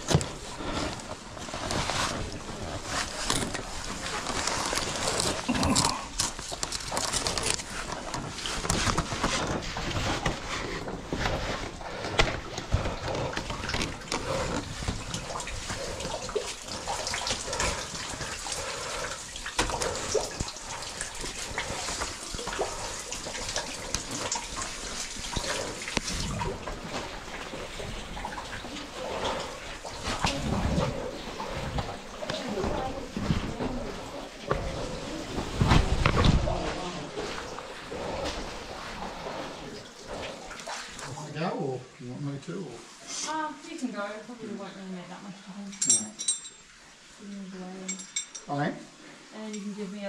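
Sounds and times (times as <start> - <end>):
water splashing: 0.0 - 45.0.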